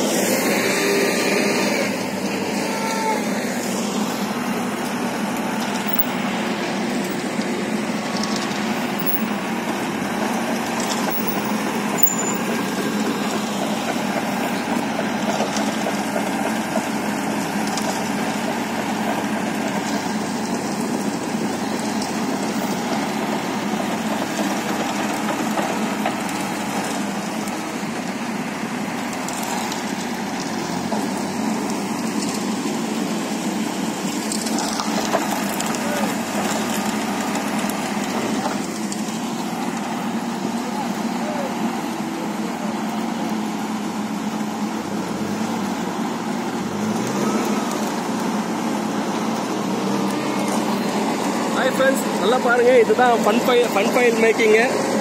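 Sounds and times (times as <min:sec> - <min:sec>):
concrete mixer engine running: 0:00.0 - 0:55.0.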